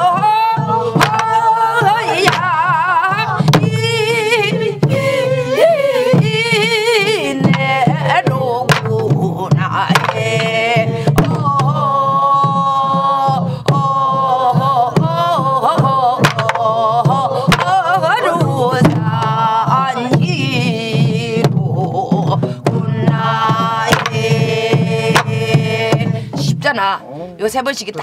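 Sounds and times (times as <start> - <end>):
group singing folk song: 0.0 - 26.6
barrel drum strokes: 0.0 - 26.7.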